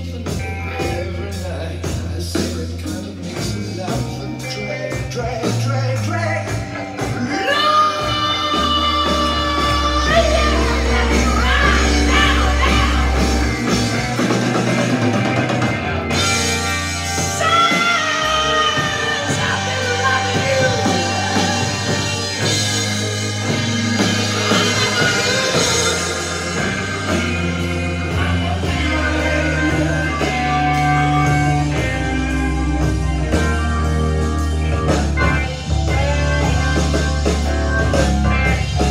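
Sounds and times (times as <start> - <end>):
song with singing and heavy bass: 0.0 - 38.9.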